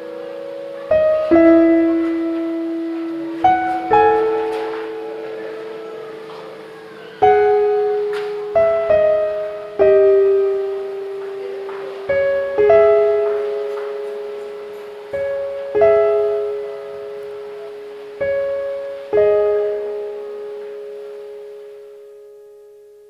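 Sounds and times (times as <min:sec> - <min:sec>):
slow solo piano notes: 0:00.0 - 0:23.0.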